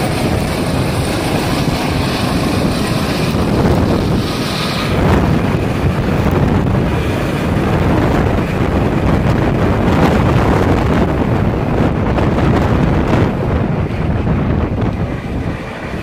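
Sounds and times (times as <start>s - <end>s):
helicopter rotor rumble: 0.0s - 16.0s
wind buffeting microphone: 0.0s - 16.0s.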